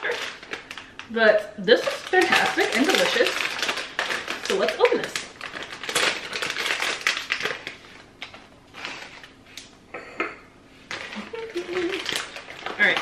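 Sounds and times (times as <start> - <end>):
plastic snack bag crinkling: 0.0 - 9.7, 10.8 - 13.0.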